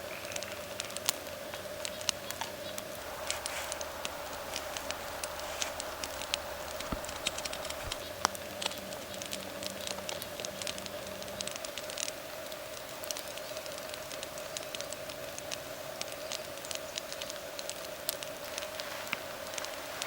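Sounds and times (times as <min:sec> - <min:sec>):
steady hum: 0:00.0 - 0:20.0
wood fire crackling and popping: 0:00.0 - 0:20.0.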